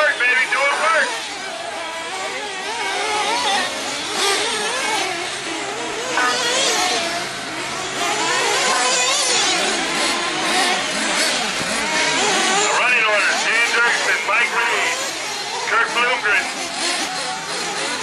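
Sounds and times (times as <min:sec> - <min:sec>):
rc car engines whining: 0:00.0 - 0:18.0.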